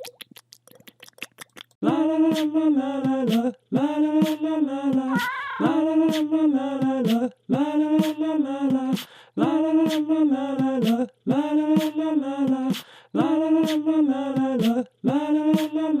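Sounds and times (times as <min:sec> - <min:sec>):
person singing la la la: 0:01.8 - 0:16.0.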